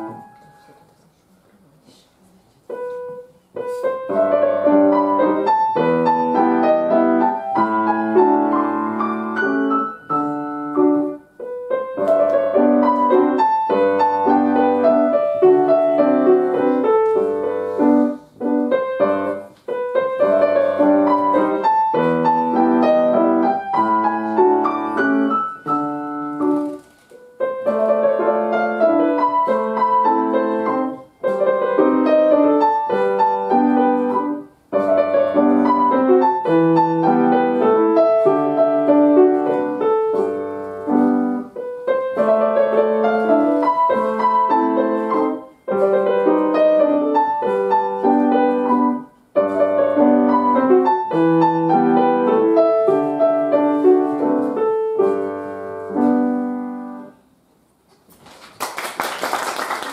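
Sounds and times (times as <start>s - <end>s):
solo piano waltz: 0.0s - 1.0s, 2.6s - 57.5s.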